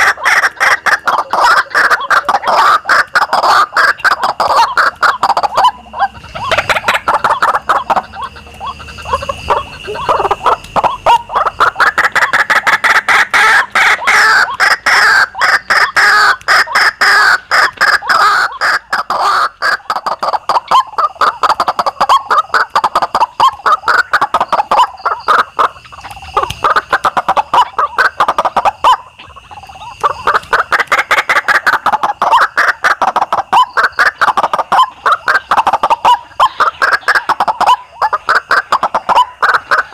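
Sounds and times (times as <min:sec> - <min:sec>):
waterhens calling: 0:00.0 - 0:39.9.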